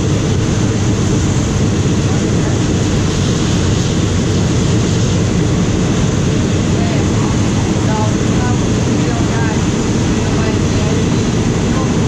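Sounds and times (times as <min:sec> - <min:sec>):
air rushing through windows: 0:00.0 - 0:12.0
train wheels rumbling on rails: 0:00.0 - 0:12.0.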